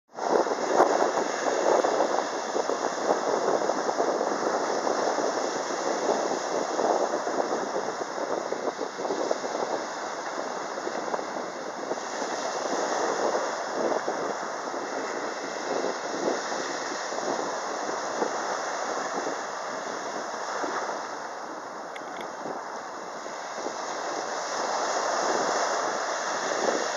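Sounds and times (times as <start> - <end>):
sea surf breaking: 0.2 - 26.9.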